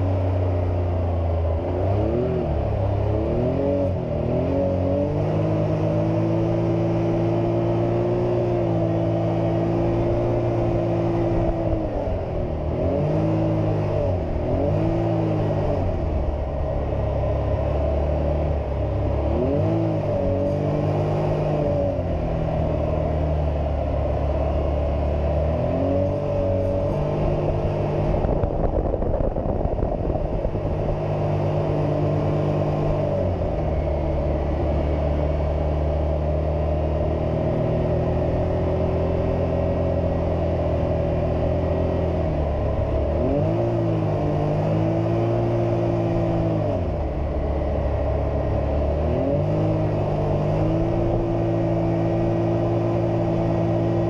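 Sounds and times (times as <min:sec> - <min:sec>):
engine revving while driving: 0:00.0 - 0:54.0.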